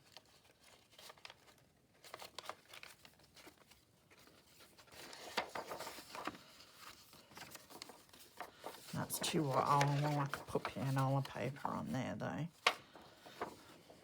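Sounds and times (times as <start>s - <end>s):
paper rustling: 0.0s - 14.0s.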